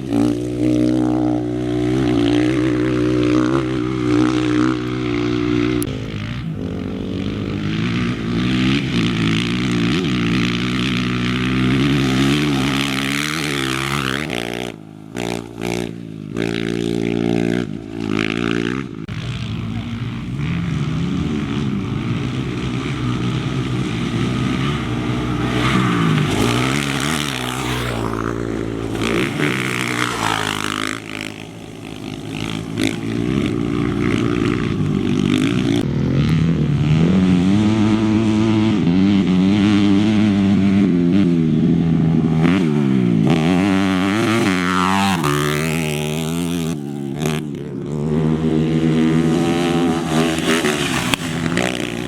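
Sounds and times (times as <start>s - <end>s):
motorcycle and quad engines revving: 0.0s - 52.0s.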